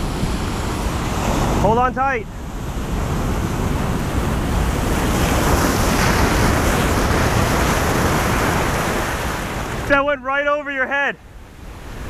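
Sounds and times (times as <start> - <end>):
ocean wave breaking over rocks: 0.0 - 12.0.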